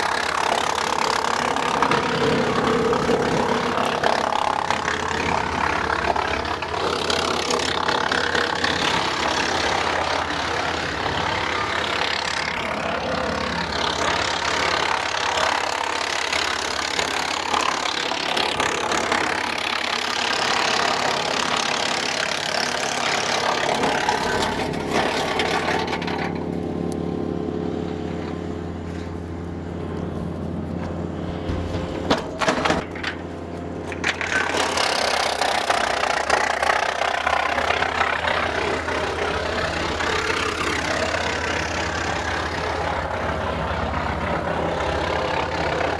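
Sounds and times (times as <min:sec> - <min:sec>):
tractor engine: 0:00.0 - 0:45.9
wood chipper chipping branches: 0:00.0 - 0:45.9.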